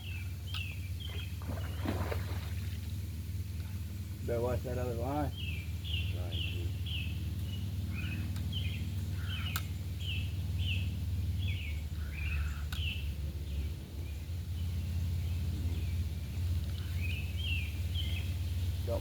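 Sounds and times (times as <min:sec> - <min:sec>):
bird chirping: 0:00.0 - 0:02.3, 0:04.8 - 0:19.0
steady low rumble: 0:00.0 - 0:19.0.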